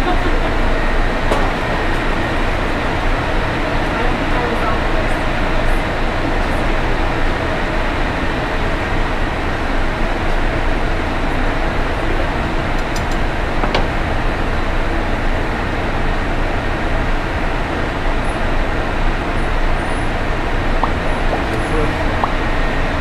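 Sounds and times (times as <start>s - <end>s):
kitchen ventilation fans running: 0.0s - 23.0s.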